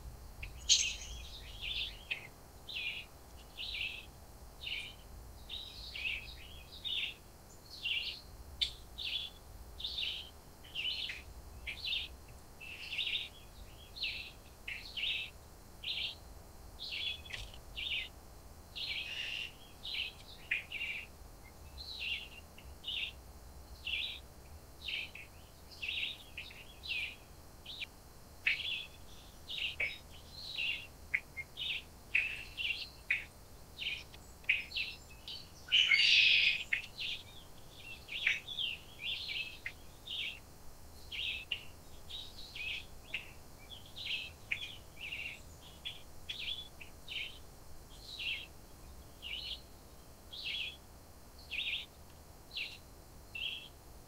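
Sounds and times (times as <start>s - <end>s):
small birds chirping: 0.0s - 53.8s.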